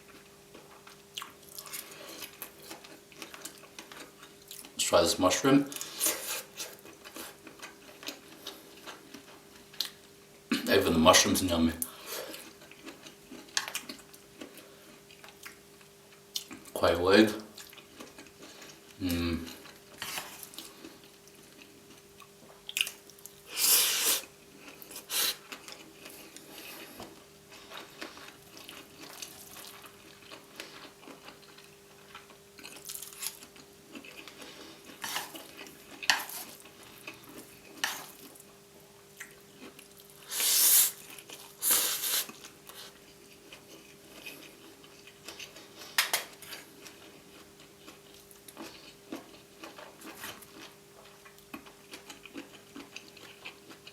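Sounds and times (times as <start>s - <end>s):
faint steady hum: 0.0s - 53.9s
chewing: 0.1s - 4.8s, 11.8s - 16.8s, 17.5s - 23.3s, 24.2s - 38.6s, 39.2s - 53.9s.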